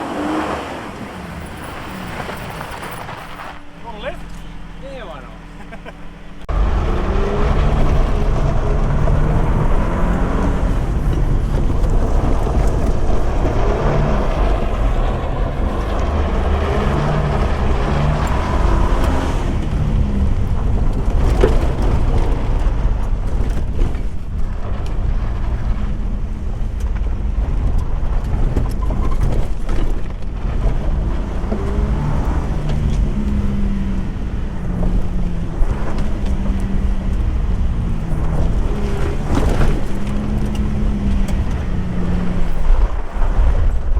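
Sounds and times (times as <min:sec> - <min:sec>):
truck engine revving off-road: 0:00.0 - 0:43.9
heavy low rumble: 0:01.0 - 0:43.9.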